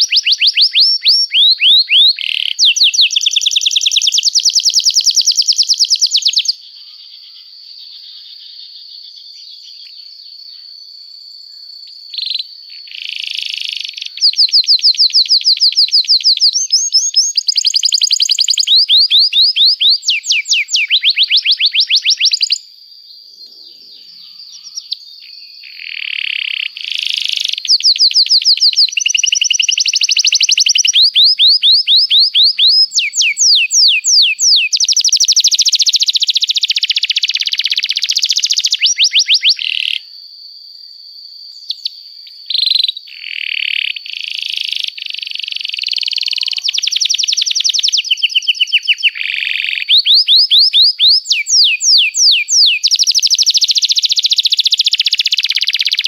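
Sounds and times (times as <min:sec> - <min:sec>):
canary singing fast trills: 0:00.0 - 0:07.4, 0:12.0 - 0:40.0, 0:41.6 - 0:56.0.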